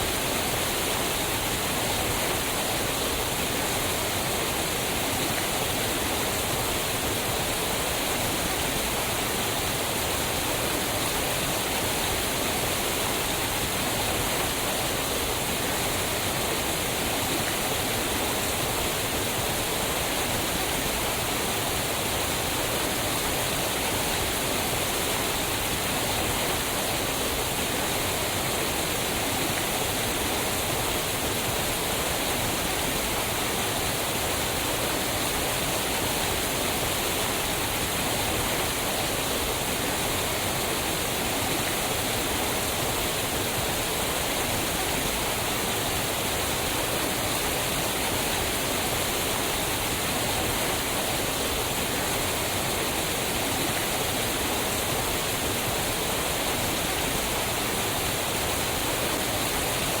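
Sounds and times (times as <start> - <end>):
waterfall pouring over rocks: 0.0 - 60.0.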